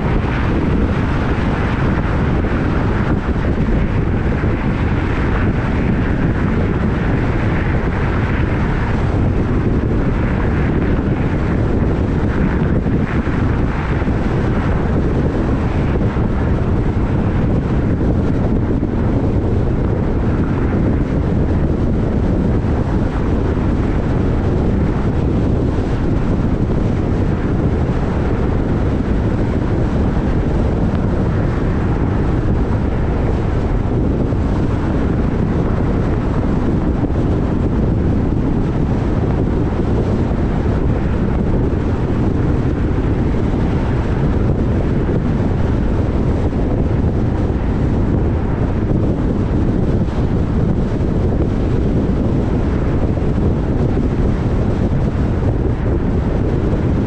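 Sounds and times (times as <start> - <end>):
vehicle rumble: 0.0 - 57.0
wind rushing over microphone: 0.0 - 57.0.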